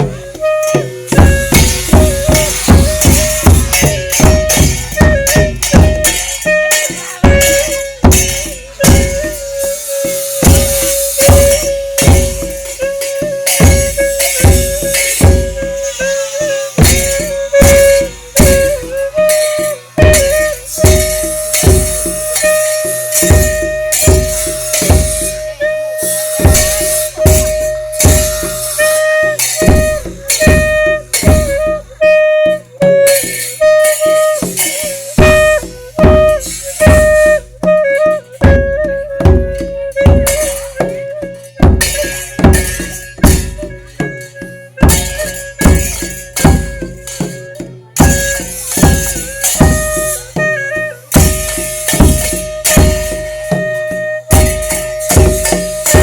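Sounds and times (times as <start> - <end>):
drums beating: 0.0 - 56.0
jingling percussion: 0.0 - 56.0.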